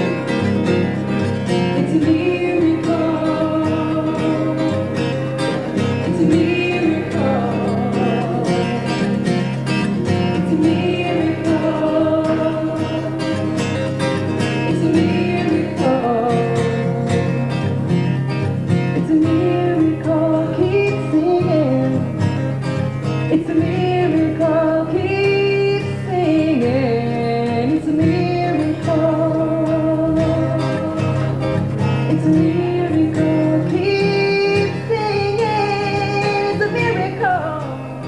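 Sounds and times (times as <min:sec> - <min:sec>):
strummed acoustic guitar: 0:00.0 - 0:38.0.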